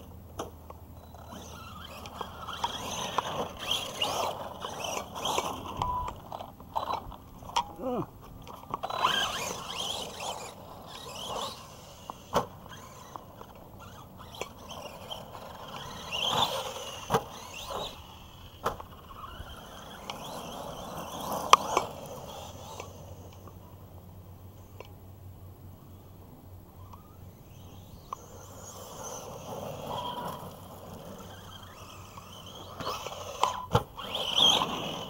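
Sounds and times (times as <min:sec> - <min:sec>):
tyres scrabbling on dirt: 0:00.4 - 0:23.5, 0:27.0 - 0:35.0
electric motor whining: 0:01.0 - 0:23.6, 0:26.7 - 0:35.0.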